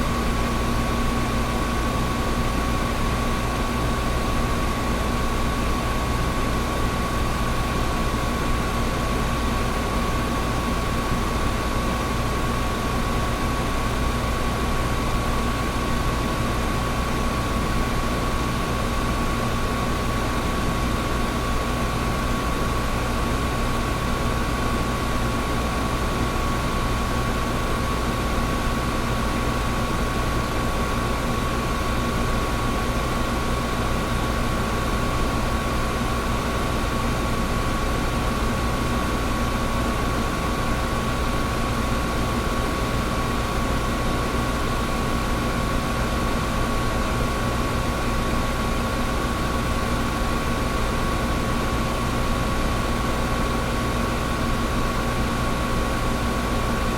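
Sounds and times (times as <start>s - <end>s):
air conditioner running: 0.0s - 56.9s.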